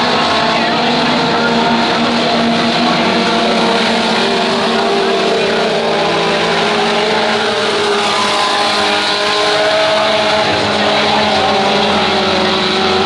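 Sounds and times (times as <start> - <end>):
race truck engines roaring: 0.0 - 13.0.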